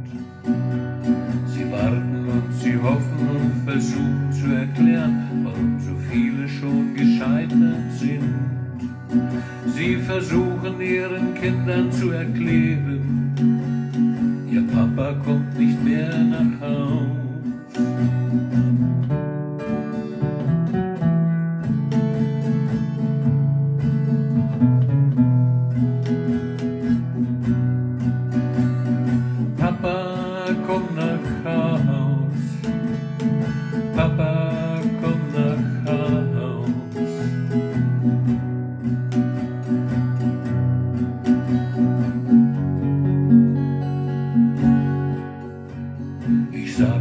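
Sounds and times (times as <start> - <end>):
acoustic guitar music: 0.0 - 47.0.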